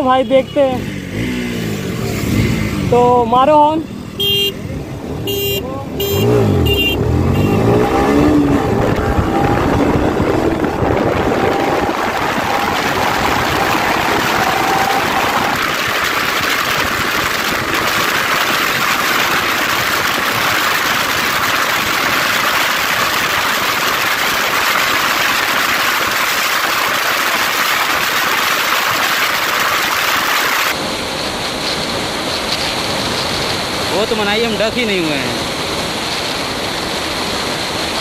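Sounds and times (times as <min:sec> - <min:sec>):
wind rushing over microphone: 0:06.4 - 0:38.0.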